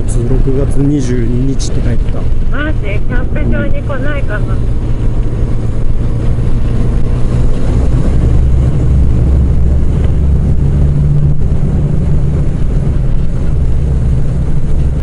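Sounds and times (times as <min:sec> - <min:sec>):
motorcycle engine cruising: 0:00.0 - 0:15.0
wind rushing over microphone: 0:00.0 - 0:15.0.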